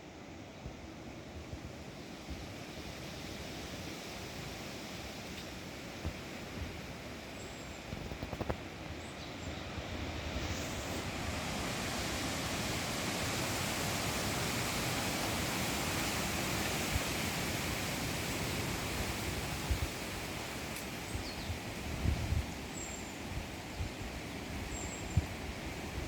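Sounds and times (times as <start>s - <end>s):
wind rushing through trees: 0.0s - 26.0s.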